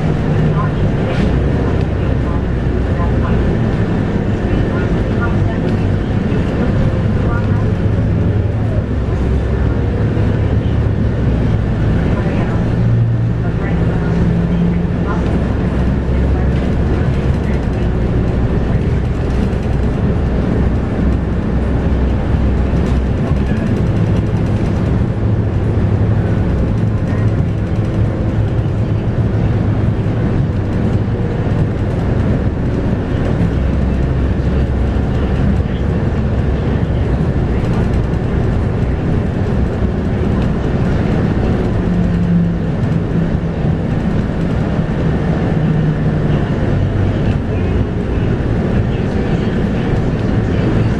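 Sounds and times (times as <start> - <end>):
diesel bus engine running: 0.0 - 50.9
road noise: 0.0 - 50.9.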